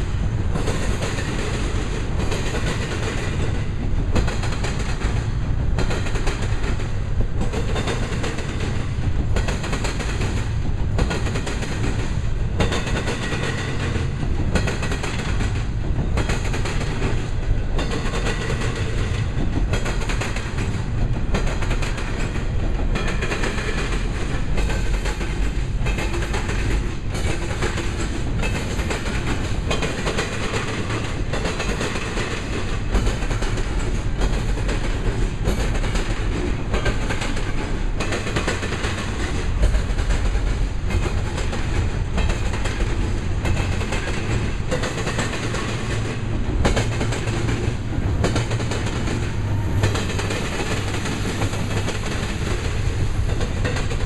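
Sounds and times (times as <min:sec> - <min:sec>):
freight train wheels clickety-clack: 0:00.0 - 0:54.0.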